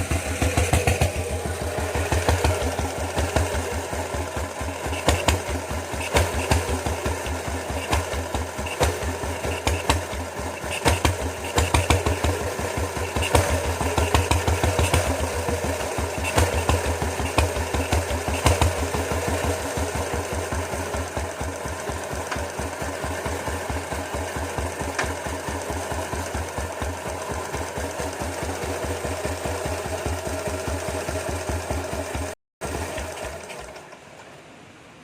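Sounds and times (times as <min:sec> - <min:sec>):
diesel engine knocking: 0:00.0 - 0:34.0.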